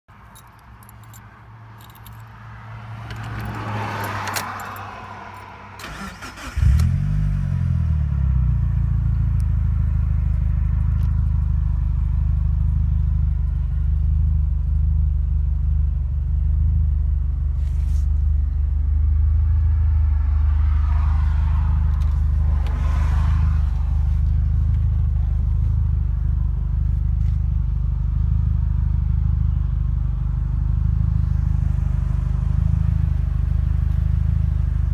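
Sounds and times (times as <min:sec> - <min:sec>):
car engine starting and idling: 0:00.3 - 0:34.9.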